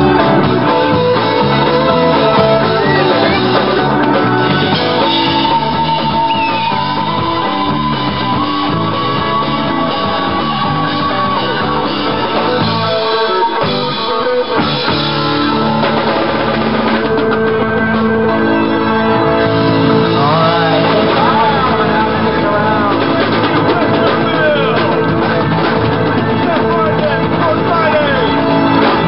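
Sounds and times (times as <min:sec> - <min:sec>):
drum kit: 0:00.0 - 0:29.0
electric guitar lead: 0:00.0 - 0:29.0
rhythm guitar: 0:00.0 - 0:29.0.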